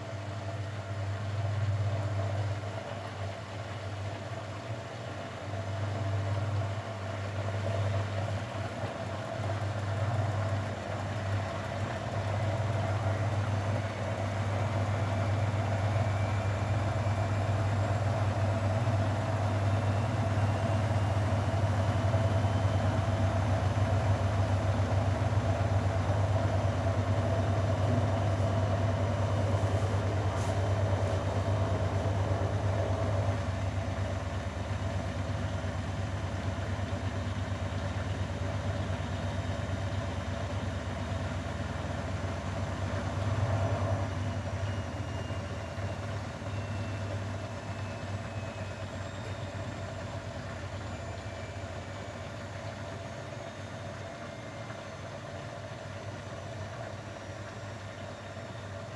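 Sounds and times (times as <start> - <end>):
washing machine humming: 0.0 - 58.9.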